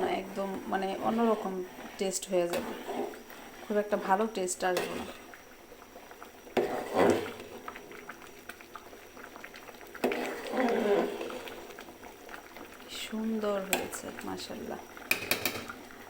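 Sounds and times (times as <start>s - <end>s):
rice and water boiling in pot: 0.0s - 16.0s.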